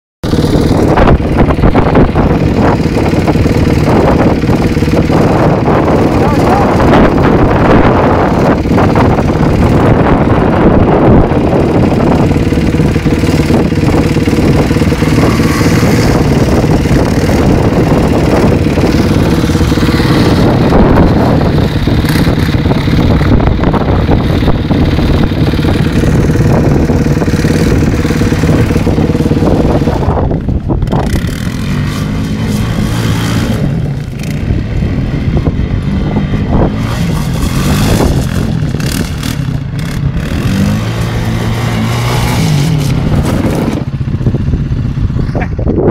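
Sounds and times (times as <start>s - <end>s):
quad bike engine on gravel: 0.2s - 45.9s.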